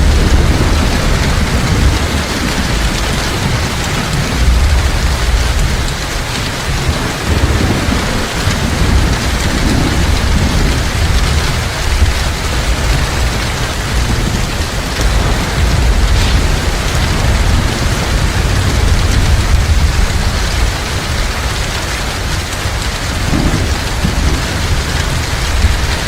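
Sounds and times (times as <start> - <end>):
heavy rain falling: 0.0 - 26.0
low thunder rumble: 0.0 - 26.0.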